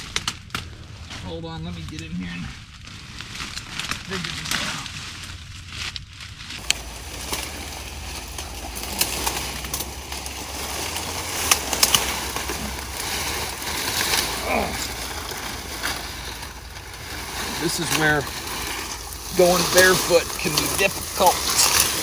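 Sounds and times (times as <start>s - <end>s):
sharp cracks: 0.0s - 2.1s, 2.7s - 22.0s
twigs snapping: 0.0s - 2.1s, 2.7s - 22.0s
brush rustling: 0.0s - 22.0s.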